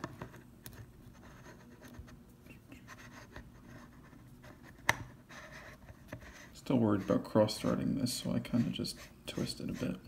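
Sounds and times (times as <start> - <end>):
scratchy rubbing of lens threads: 0.0 - 10.0.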